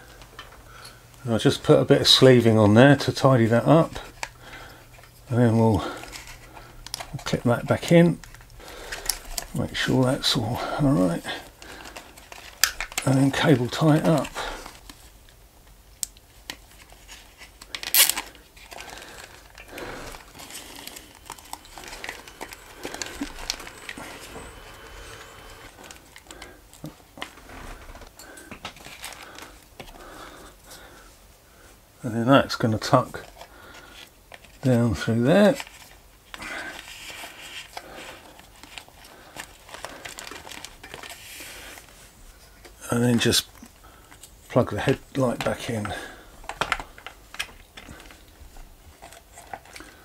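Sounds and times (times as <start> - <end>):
wiring rustling and plastic clicks: 0.0 - 30.9, 32.6 - 50.0.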